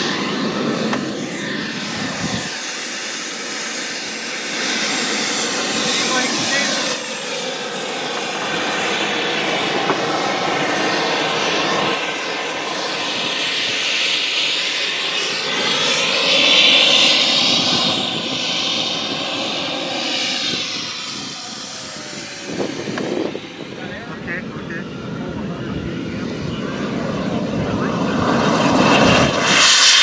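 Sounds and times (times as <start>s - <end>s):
jet turbine rushing and whining: 0.0s - 30.0s.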